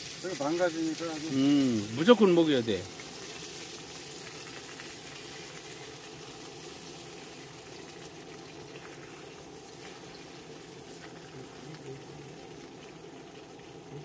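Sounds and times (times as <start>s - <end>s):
pot boiling and bubbling: 0.0s - 14.0s.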